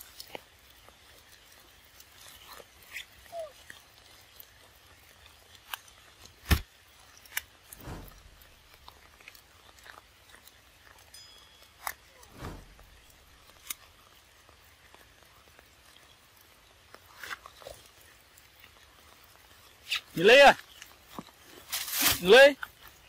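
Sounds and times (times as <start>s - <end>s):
monkeys chewing wet smacks: 0.0s - 21.7s.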